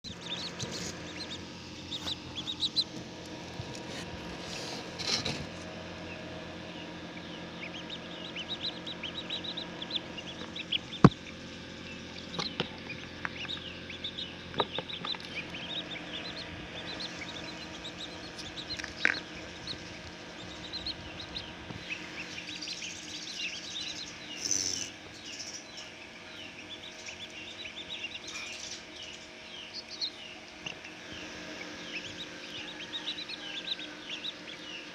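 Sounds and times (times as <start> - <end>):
chicks peeping: 0.0 - 34.9
incubator machinery hum: 0.0 - 34.9.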